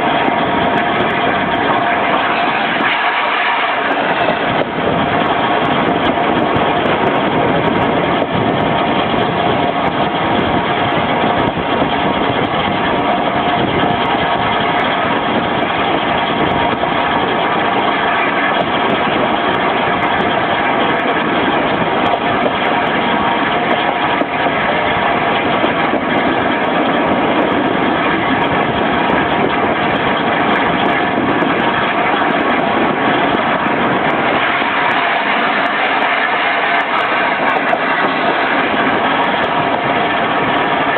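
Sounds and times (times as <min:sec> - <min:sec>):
train rumbling and rattling: 0:00.0 - 0:40.9.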